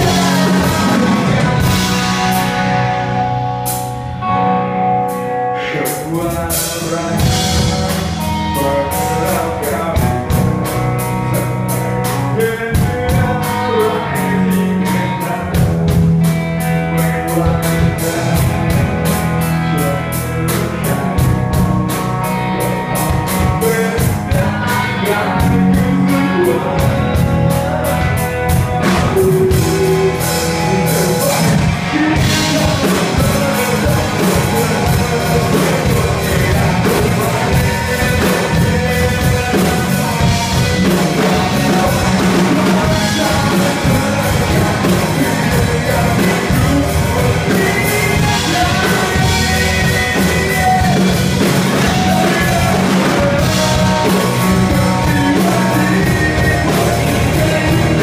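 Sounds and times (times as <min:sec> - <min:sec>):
bass guitar: 0:00.0 - 0:58.0
drum kit: 0:00.0 - 0:58.0
electric guitar: 0:00.0 - 0:58.0
singer singing: 0:00.0 - 0:58.0.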